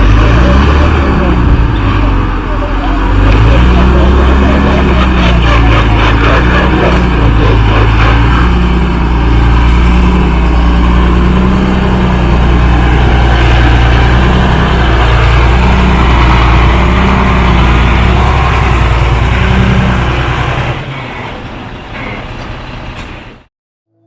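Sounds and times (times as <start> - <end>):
heavy diesel engine running: 0.0 - 23.5.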